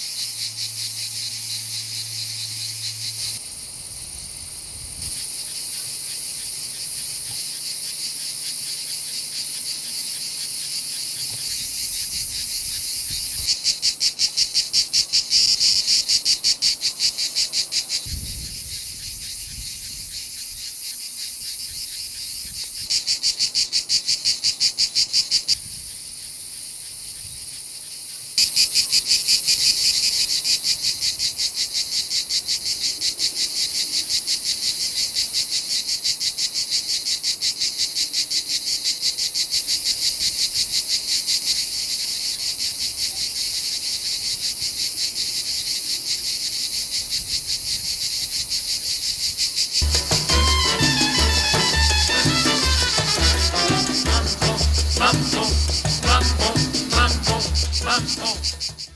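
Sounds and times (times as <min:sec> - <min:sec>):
cicadas buzzing: 0:00.0 - 0:58.9.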